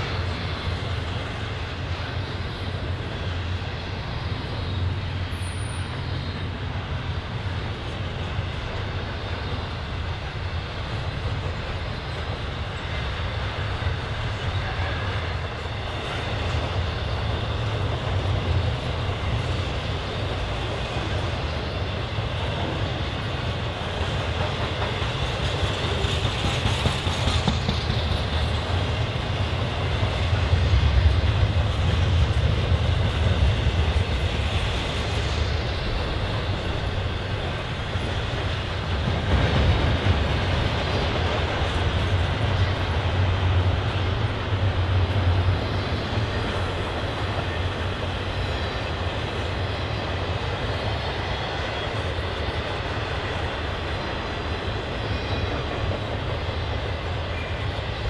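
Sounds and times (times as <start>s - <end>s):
clickety-clack of rail joints: 0.0s - 58.0s
train wheels rumbling on rails: 0.0s - 58.0s.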